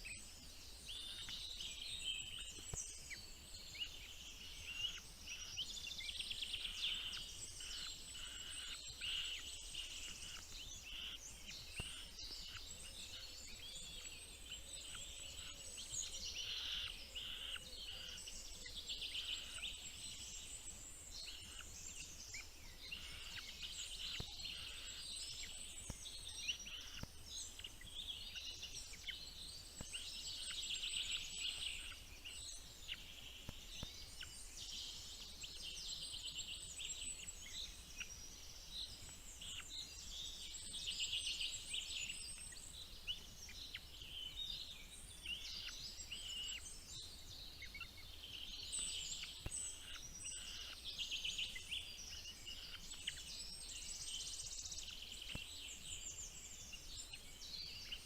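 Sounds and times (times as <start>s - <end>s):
bird chicks cheeping: 0.0s - 58.0s.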